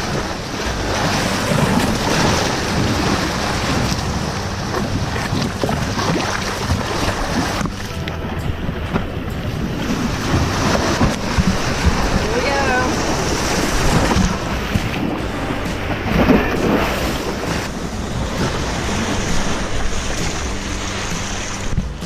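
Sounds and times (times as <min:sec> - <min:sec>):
surf breaking on rocks: 0:00.0 - 0:22.0
wind buffeting microphone: 0:00.0 - 0:22.0.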